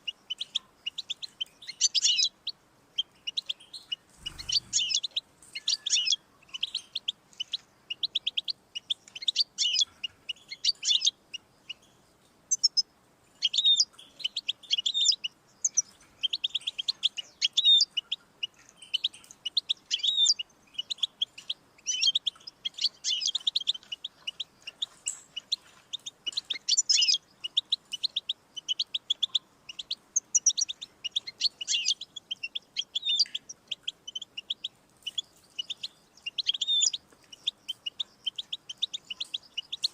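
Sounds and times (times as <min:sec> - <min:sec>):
goldfinch twittering trills: 0:00.0 - 0:39.9.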